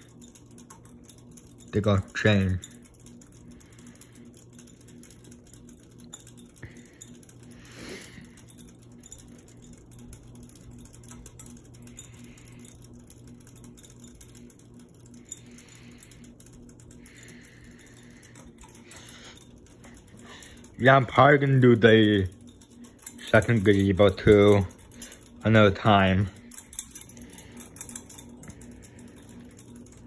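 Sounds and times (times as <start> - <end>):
ceiling fan running: 0.0 - 30.0.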